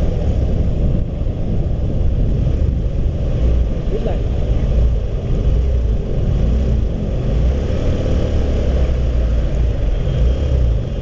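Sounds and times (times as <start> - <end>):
motorcycle engine rumble: 0.0 - 11.0
wind rushing over microphone: 0.0 - 11.0.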